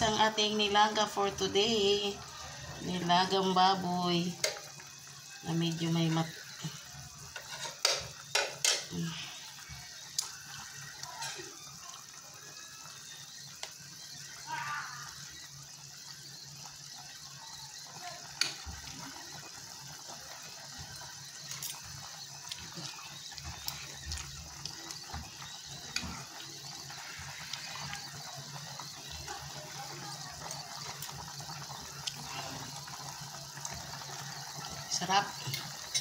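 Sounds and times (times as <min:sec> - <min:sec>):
soup bubbling in pot: 0:00.0 - 0:36.0.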